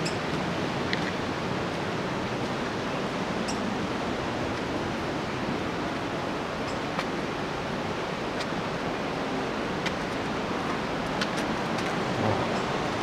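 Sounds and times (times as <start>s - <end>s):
rushing whitewater roar: 0.0s - 13.0s.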